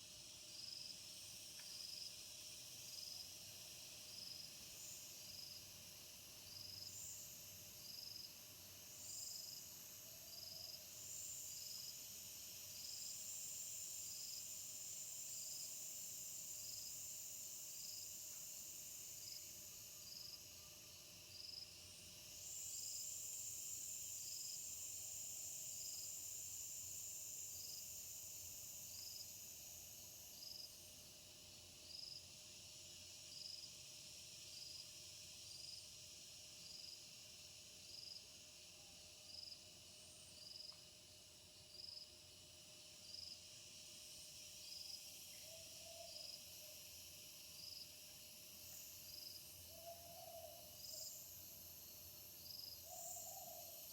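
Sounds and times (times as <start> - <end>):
cricket chirping: 0.0 - 53.9
high insect buzz: 0.0 - 53.9.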